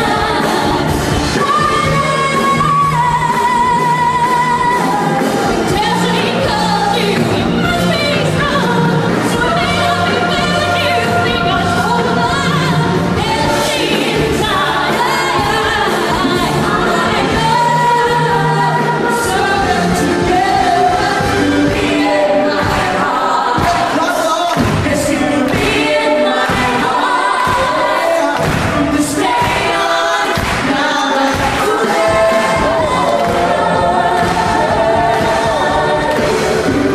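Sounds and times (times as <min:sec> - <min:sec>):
amplified stage music: 0:00.0 - 0:36.9
voices joining in singing: 0:00.0 - 0:36.9.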